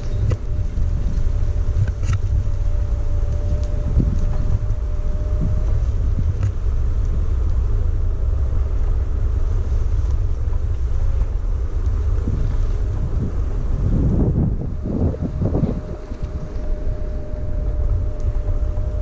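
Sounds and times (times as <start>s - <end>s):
faint electric motor whine: 0.0s - 19.0s
wind buffeting microphone: 0.0s - 19.0s.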